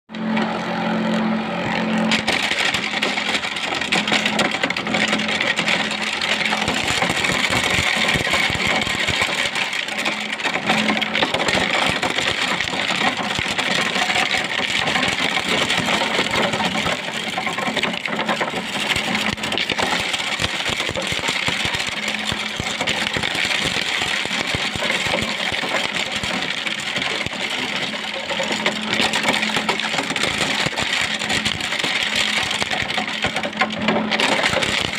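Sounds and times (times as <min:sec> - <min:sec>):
kernels rattling in corn sheller: 0:00.2 - 0:34.9.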